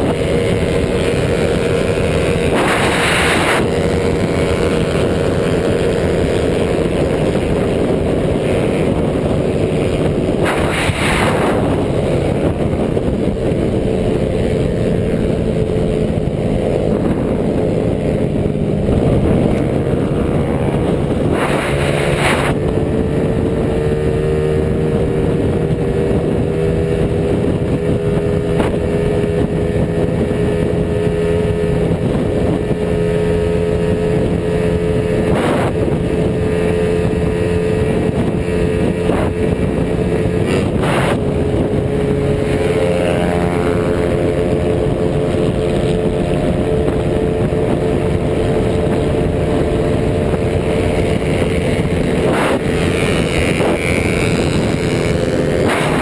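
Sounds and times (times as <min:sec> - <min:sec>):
small motorcycle engine running: 0:00.0 - 0:56.0
wind rushing past microphone: 0:00.0 - 0:56.0.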